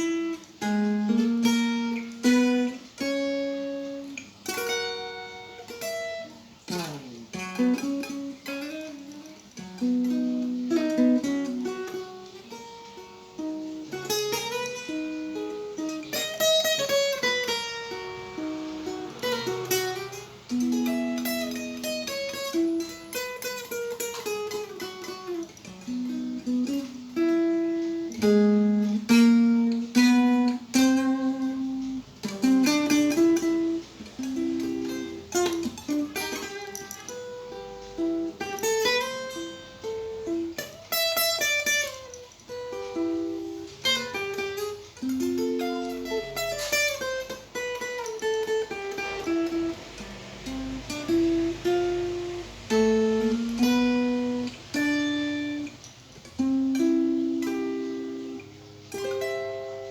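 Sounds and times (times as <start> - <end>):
fingerstyle acoustic guitar: 0.0 - 59.9.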